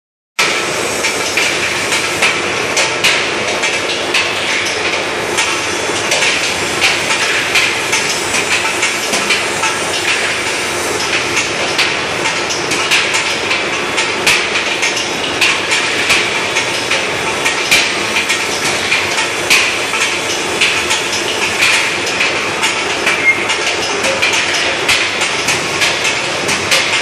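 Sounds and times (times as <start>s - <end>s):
rolling mill clatter: 0.4s - 27.0s.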